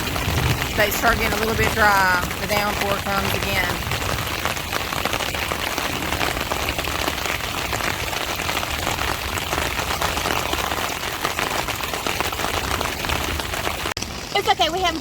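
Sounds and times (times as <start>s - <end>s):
heavy rain on a tarp: 0.0s - 15.0s.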